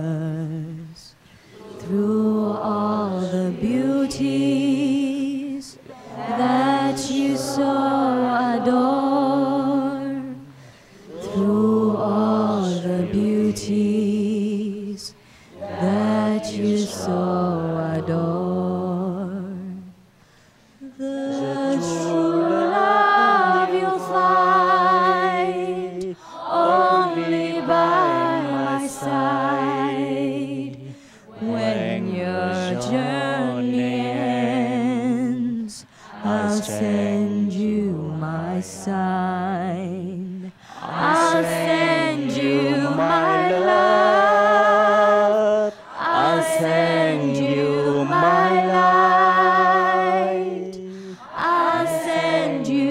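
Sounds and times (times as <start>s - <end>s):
woman singing unaccompanied: 0.0s - 10.5s, 11.1s - 20.0s, 20.8s - 52.9s.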